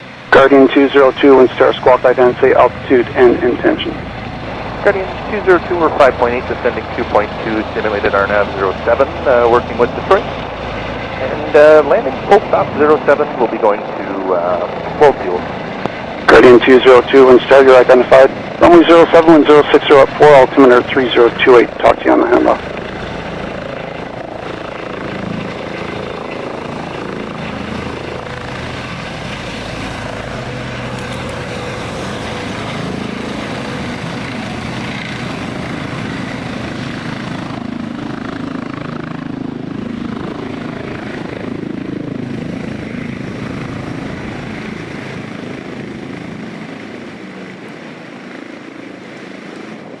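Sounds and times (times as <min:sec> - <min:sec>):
helicopter rotor and engine: 0:00.0 - 0:50.0.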